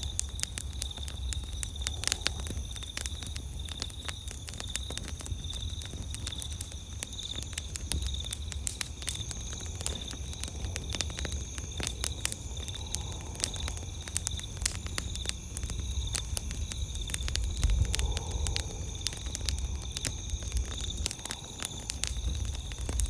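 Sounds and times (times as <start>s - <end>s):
campfire crackling: 0.0s - 23.0s
night insects chirping: 0.0s - 23.0s.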